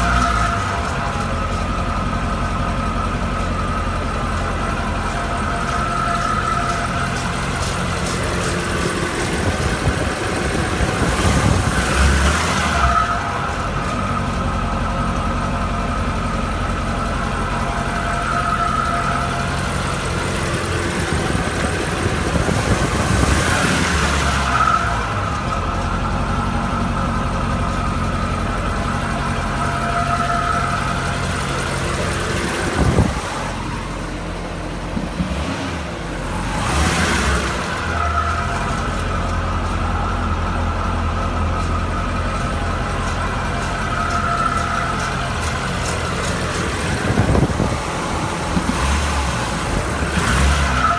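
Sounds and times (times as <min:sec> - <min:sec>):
car engine running: 0:00.0 - 0:50.9
rapid engine ticking: 0:00.0 - 0:50.9.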